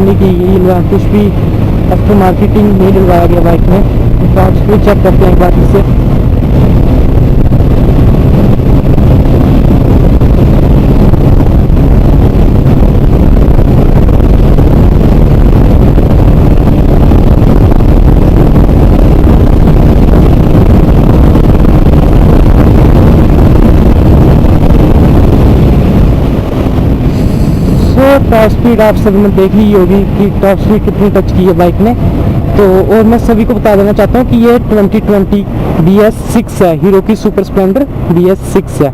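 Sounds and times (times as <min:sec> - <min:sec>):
motorcycle engine at top speed: 0:00.0 - 0:38.9
wind buffeting microphone: 0:00.0 - 0:38.9.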